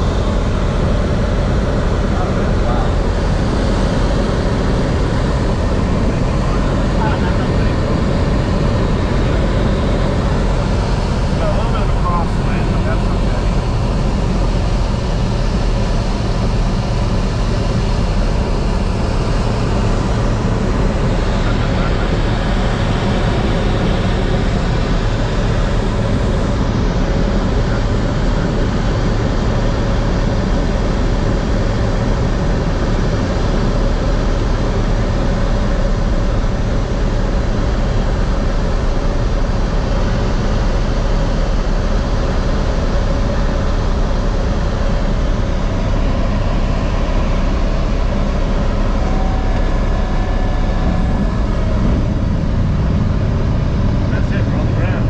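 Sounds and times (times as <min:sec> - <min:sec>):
light aircraft engine drone: 0:00.0 - 0:55.0.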